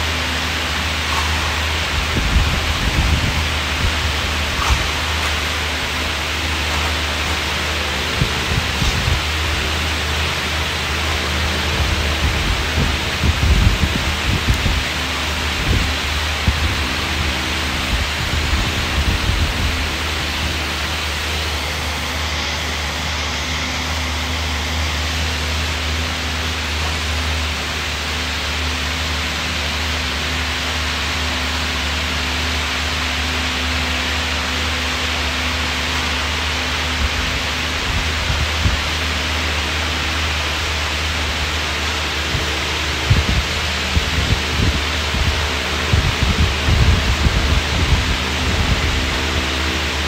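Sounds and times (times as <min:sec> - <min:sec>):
air bike fan rushing: 0:00.0 - 0:50.0.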